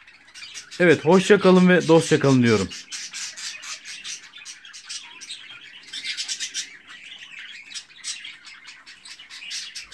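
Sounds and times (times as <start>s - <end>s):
budgerigars chirping: 0.0s - 9.9s.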